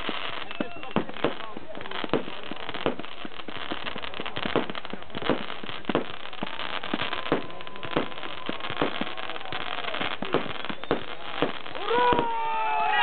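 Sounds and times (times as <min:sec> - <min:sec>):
crackling hiss: 0:00.0 - 0:13.0
fireworks pops and bangs: 0:00.0 - 0:13.0.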